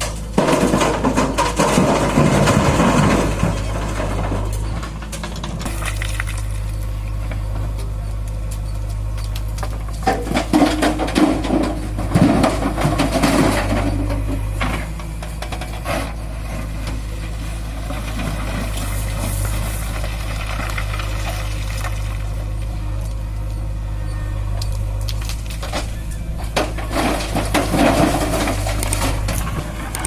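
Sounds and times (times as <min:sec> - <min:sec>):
tractor diesel engine drone: 0:00.0 - 0:30.0.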